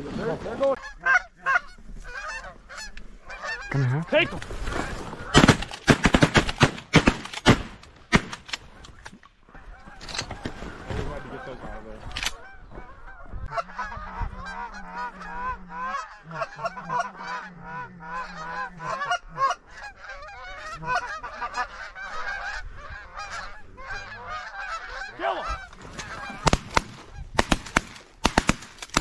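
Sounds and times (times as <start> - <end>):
geese honking: 0.5 - 6.1, 8.6 - 27.4.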